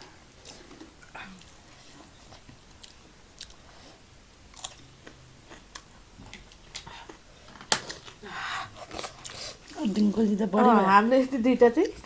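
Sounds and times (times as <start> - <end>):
chewing crispy fried chicken: 0.4 - 10.1.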